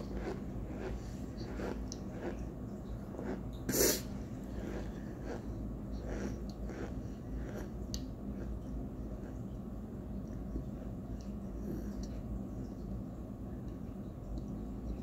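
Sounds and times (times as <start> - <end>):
chewing and crunching: 0.0 - 3.7, 4.3 - 12.7.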